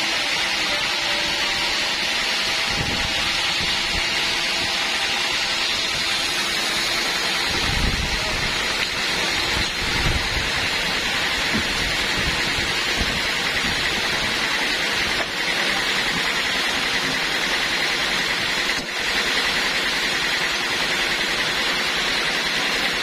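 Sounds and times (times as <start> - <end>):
band saw cutting log: 0.0 - 23.0.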